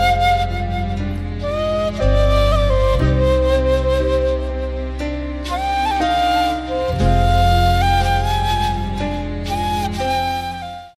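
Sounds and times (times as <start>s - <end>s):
slow flute-like melody: 0.0s - 11.0s.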